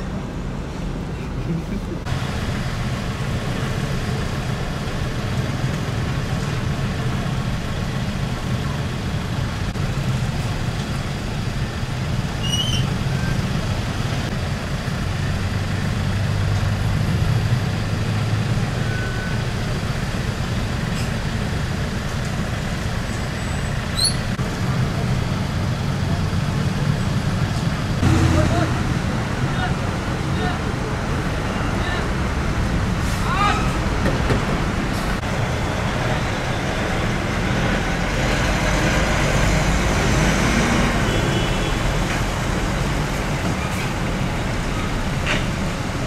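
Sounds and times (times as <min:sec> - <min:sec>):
diesel truck engines rumbling: 0:00.0 - 0:46.0
road traffic: 0:00.0 - 0:46.0.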